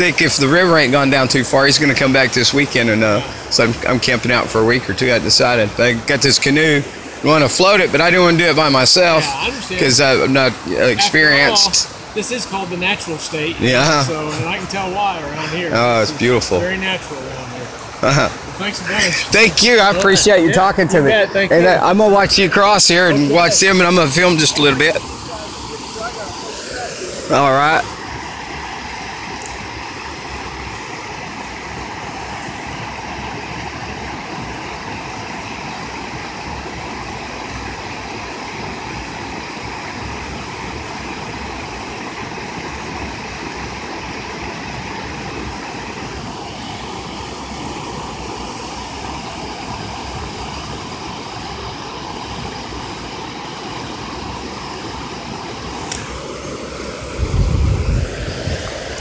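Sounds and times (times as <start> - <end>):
river water pouring: 0.0 - 59.0.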